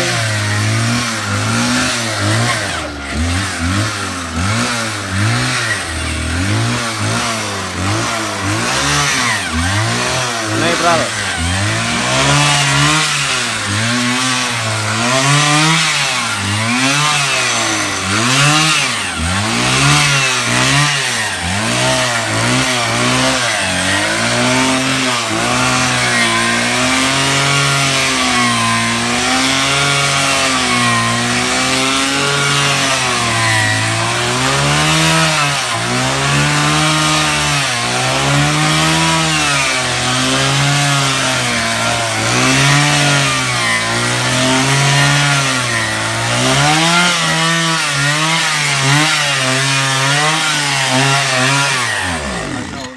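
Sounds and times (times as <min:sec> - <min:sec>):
electric drill motor running: 0:00.0 - 0:36.7, 0:39.0 - 0:52.9.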